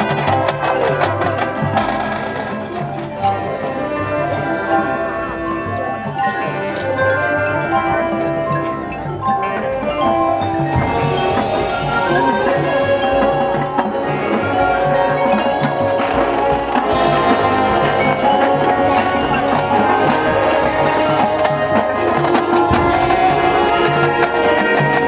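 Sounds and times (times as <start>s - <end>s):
marching band wind chords: 0.0s - 25.0s.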